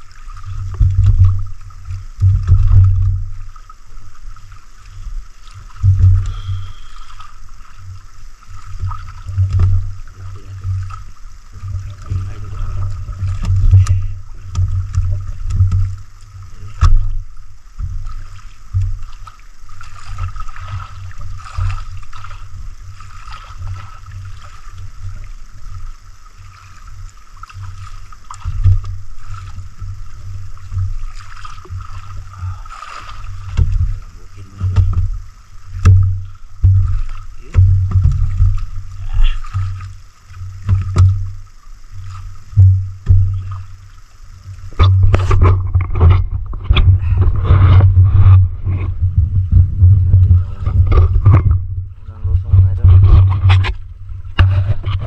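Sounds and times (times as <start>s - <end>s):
steady high hum: 0.0s - 55.0s
boat hull knocking: 0.3s - 4.5s, 5.4s - 7.7s, 8.5s - 24.1s, 27.6s - 32.4s, 33.0s - 55.0s.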